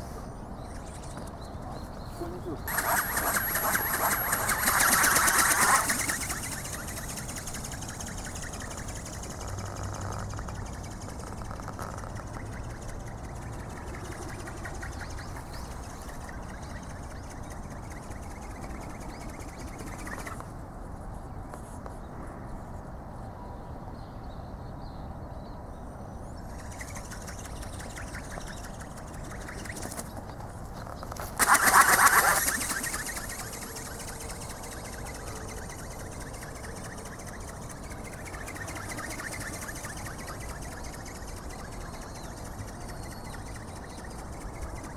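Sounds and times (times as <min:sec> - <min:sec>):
open-air background noise: 0:00.0 - 0:44.9
wings flapping rapidly: 0:02.7 - 0:20.4, 0:26.6 - 0:44.9.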